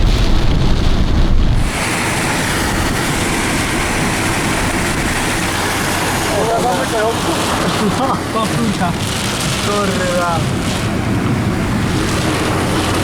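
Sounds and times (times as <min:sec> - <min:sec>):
deep rumble: 0:00.0 - 0:13.0
rain and road spray hissing: 0:00.4 - 0:13.0.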